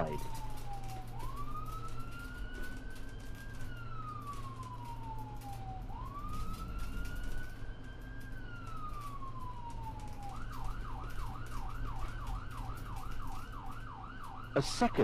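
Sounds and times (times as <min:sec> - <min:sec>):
emergency siren: 0:00.0 - 0:15.0.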